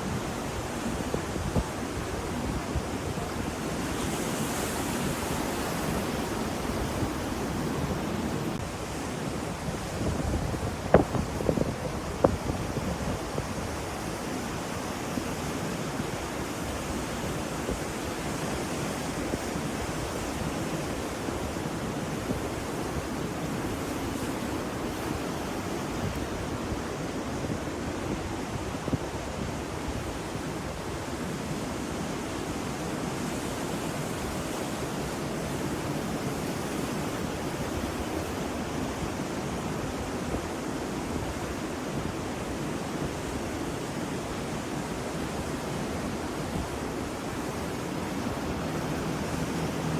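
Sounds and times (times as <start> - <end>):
ocean waves washing in: 0.0 - 49.9
wind on microphone: 0.0 - 49.9.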